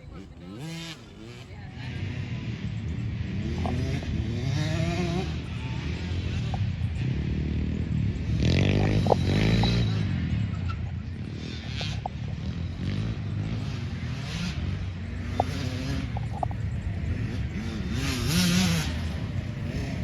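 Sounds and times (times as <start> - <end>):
dirt bike engines racing: 0.0 - 20.0
dirt bike revving past: 0.0 - 20.0.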